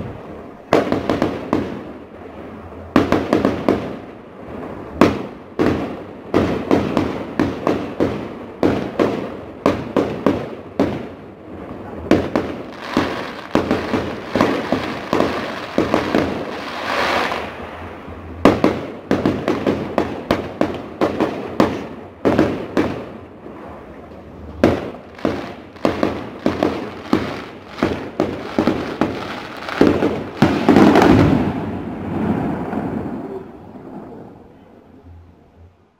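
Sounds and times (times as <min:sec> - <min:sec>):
fireworks bangs: 0:00.0 - 0:34.6.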